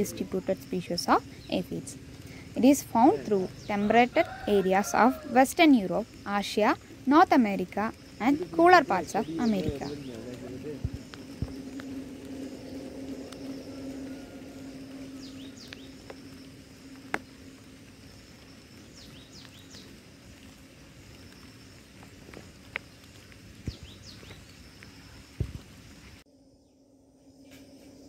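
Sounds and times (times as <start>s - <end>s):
low steady hum: 0.0s - 28.0s
pulsing insect trill: 0.0s - 28.0s.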